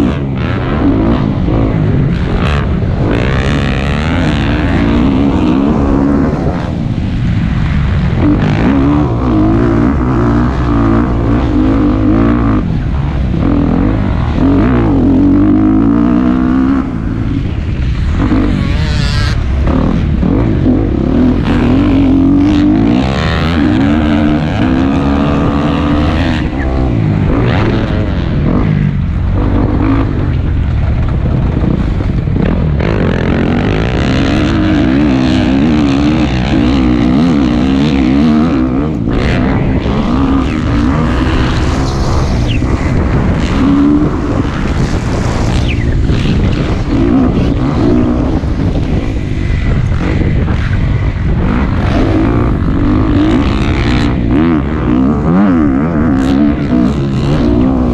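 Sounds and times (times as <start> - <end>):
dirt bike engine revving: 0.0 - 57.9
wind on microphone: 0.0 - 57.9.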